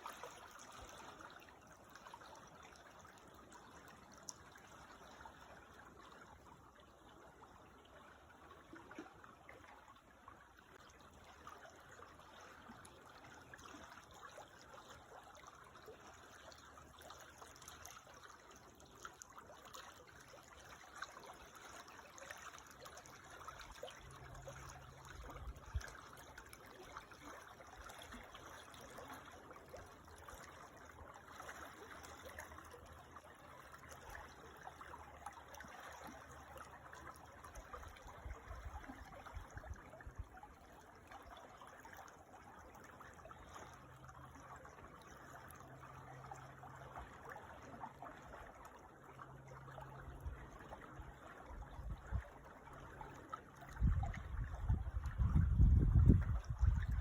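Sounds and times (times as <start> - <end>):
creek trickling: 0.0 - 57.0.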